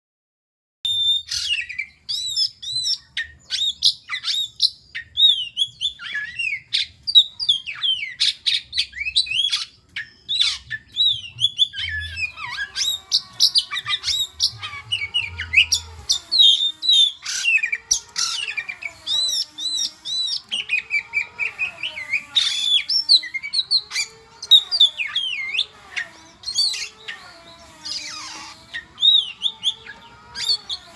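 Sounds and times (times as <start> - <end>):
bird singing whistles and chirps: 0.9 - 30.9.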